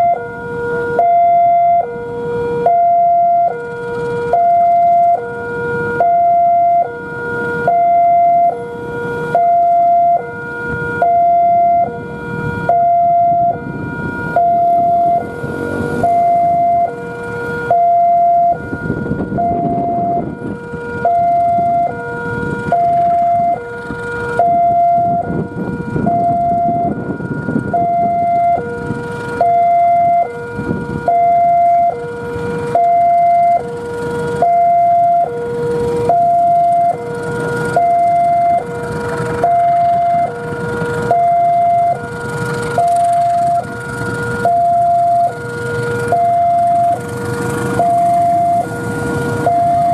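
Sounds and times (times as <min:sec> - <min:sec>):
diesel locomotive rumble: 0:00.0 - 0:49.9
two-tone warning alarm: 0:00.0 - 0:49.9.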